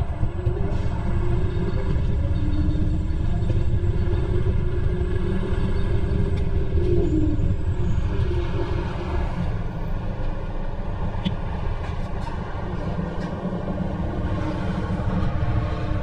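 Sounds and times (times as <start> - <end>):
wind rumble: 0.0 - 16.0.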